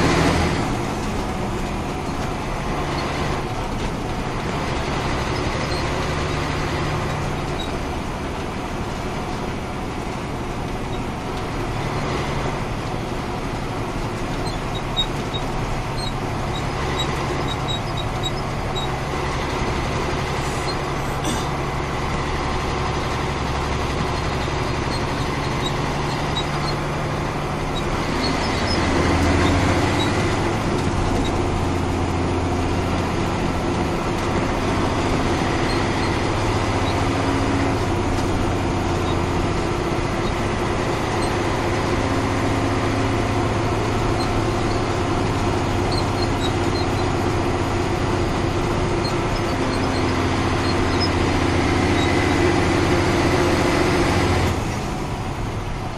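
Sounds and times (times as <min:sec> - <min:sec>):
truck diesel engine driving: 0:00.0 - 0:55.9.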